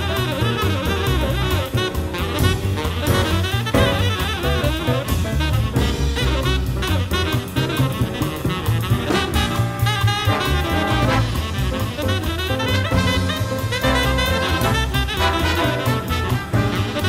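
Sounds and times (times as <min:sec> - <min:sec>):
bass: 0:00.0 - 0:17.0
drums: 0:00.0 - 0:17.0
piano: 0:00.0 - 0:17.0
tenor saxophone solo: 0:00.0 - 0:17.0
trumpet and trombone chords: 0:00.0 - 0:17.0.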